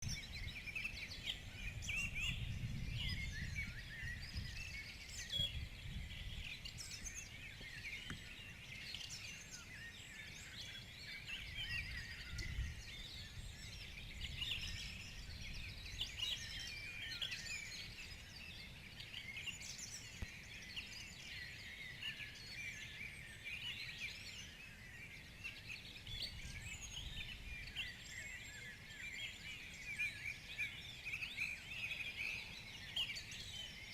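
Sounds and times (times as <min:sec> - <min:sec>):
songbirds singing and chirping: 0:00.0 - 0:33.9.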